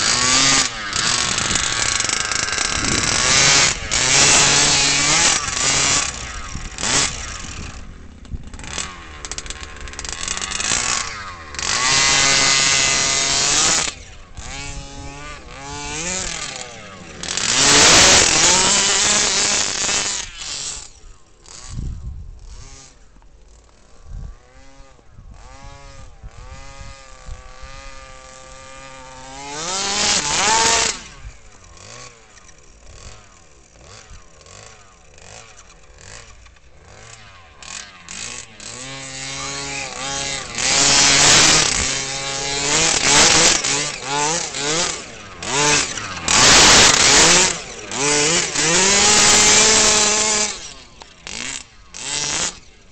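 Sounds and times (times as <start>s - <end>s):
model truck engine revving: 0.0s - 23.6s, 24.4s - 52.9s.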